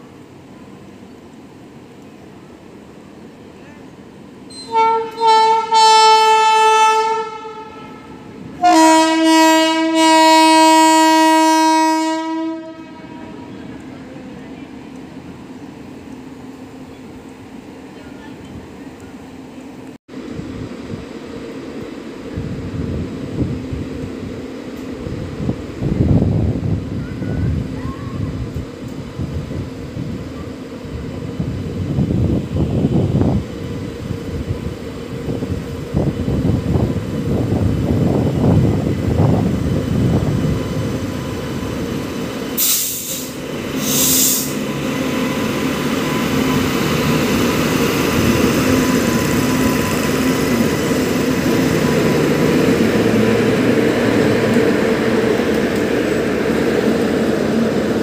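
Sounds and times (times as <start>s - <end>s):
train coaches rumbling past: 0.0s - 58.0s.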